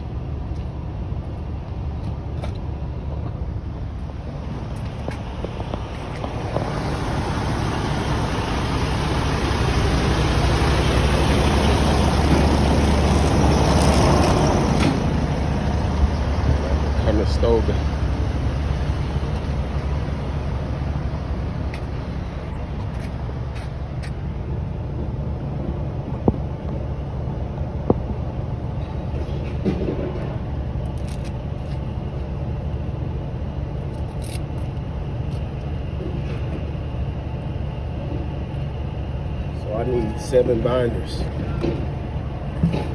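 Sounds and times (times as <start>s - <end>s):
vehicle engine rumble: 0.0s - 42.9s.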